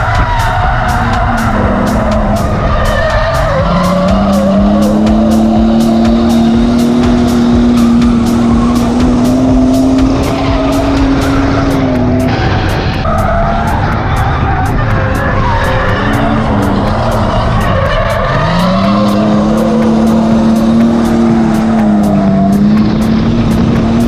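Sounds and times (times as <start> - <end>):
car engine at high revs: 0.0 - 24.0
tyre noise: 0.0 - 24.0.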